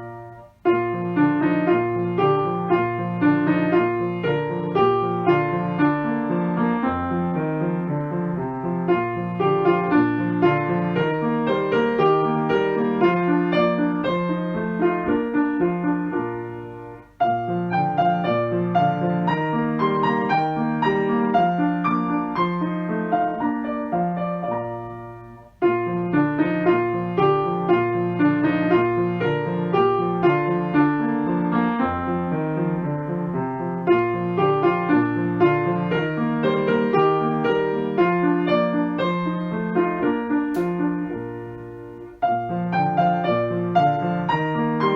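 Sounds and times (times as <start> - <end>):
gentle piano music: 0.0 - 44.9.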